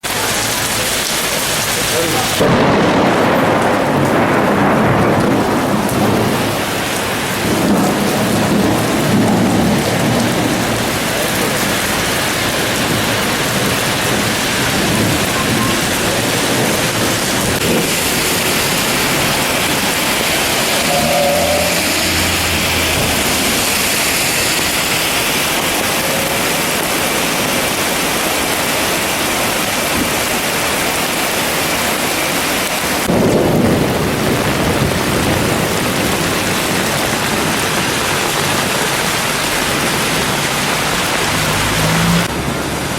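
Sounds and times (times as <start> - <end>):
heavy rain pouring: 0.0 - 42.9
thunder rumbling: 2.4 - 28.8, 33.0 - 42.9.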